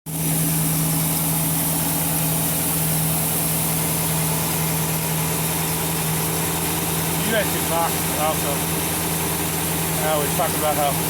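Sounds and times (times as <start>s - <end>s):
boat engine idling: 0.1s - 11.0s.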